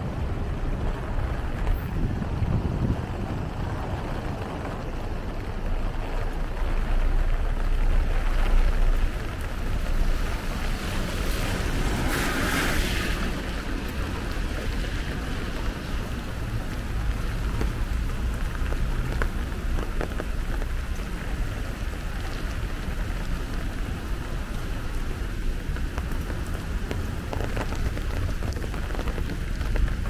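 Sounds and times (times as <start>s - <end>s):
rain hiss: 0.0s - 30.0s
tyres on wet road: 0.0s - 30.0s.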